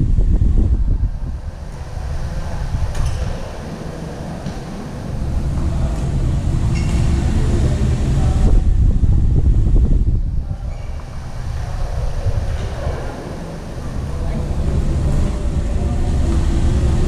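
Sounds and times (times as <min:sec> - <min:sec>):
low air rumble: 0:00.0 - 0:17.0.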